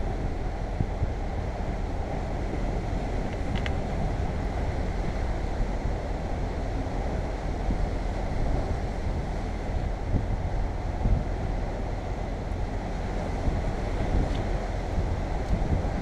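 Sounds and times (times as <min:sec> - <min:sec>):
sea surf against rocks: 0:00.0 - 0:16.0
wind buffeting microphone: 0:00.0 - 0:16.0.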